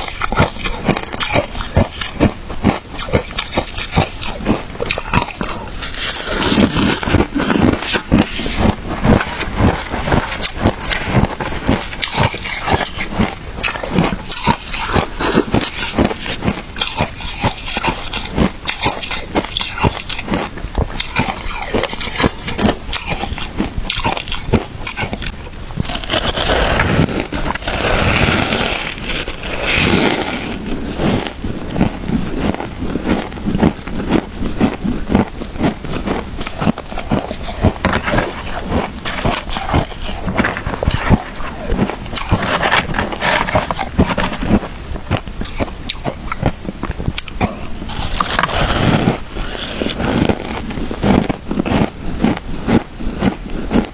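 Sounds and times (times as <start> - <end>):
crunching and chewing shaved ice: 0.0 - 53.9.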